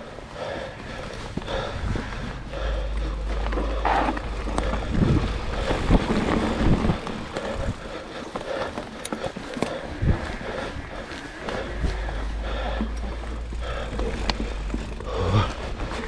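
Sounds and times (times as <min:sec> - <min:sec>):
tyres rolling over ground: 0:00.0 - 0:16.0
bike knocking and rattling: 0:00.4 - 0:16.0
wind buffeting microphone: 0:00.7 - 0:16.0.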